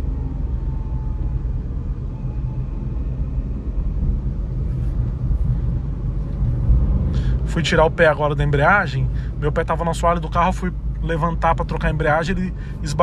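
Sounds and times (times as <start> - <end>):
car engine drone inside cabin: 0.0 - 13.0.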